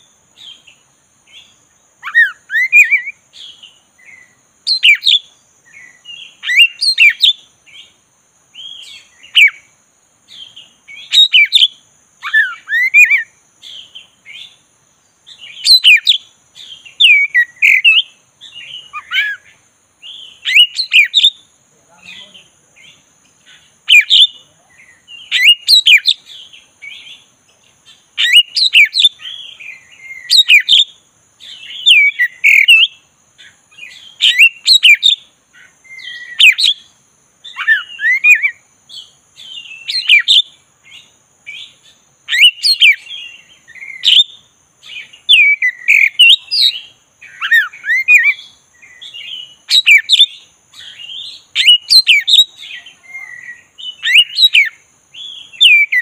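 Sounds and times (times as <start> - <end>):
songbird singing whistled phrases: 0.0 - 9.7, 10.3 - 14.6, 15.2 - 56.0.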